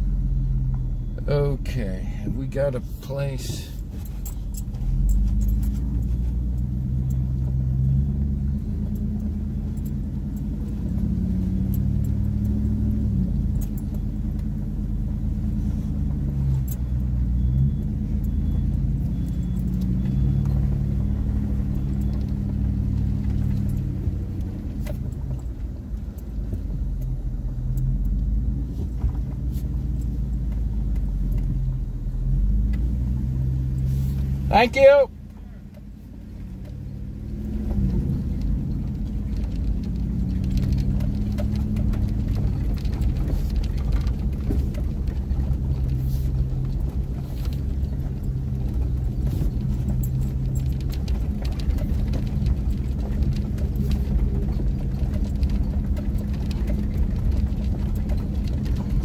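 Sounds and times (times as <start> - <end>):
pickup engine at low revs: 0.0 - 59.0
clicks and rattles in cab: 1.6 - 32.0, 32.6 - 59.0.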